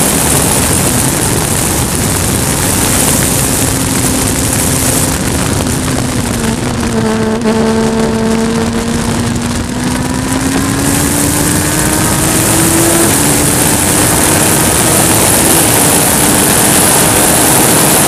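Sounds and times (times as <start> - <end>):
race car engine under load: 0.0 - 18.0
wind and road noise: 0.0 - 18.0.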